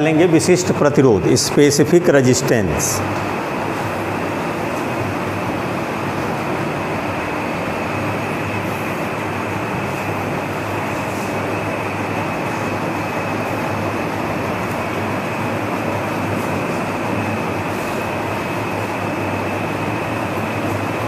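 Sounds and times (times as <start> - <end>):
steady even noise: 0.0 - 20.7.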